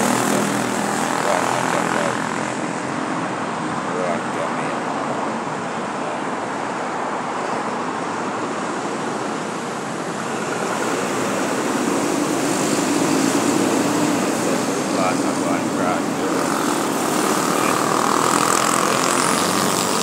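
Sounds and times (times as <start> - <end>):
vehicle road and wind noise: 0.0 - 20.0.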